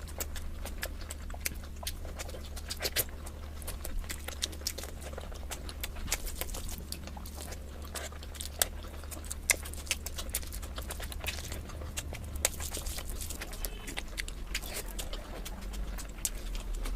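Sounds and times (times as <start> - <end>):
low hum: 0.0 - 16.9
person chewing food: 0.0 - 16.9
wet mouth clicks and smacks: 0.0 - 16.9.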